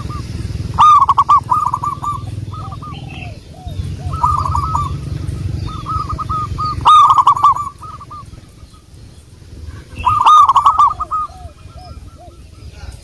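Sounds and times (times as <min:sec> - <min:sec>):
dove cooing: 0:00.0 - 0:13.0
low rumble: 0:00.0 - 0:13.0
small birds chirping: 0:00.0 - 0:13.0.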